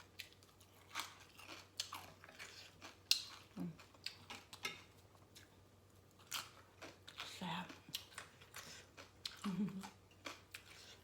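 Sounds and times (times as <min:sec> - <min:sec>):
chewing and crunching salad: 0:00.0 - 0:11.0.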